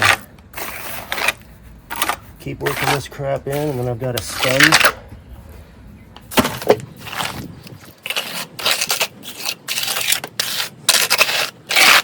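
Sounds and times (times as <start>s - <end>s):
tool scraping rough surface: 0.0s - 4.9s, 6.3s - 12.0s.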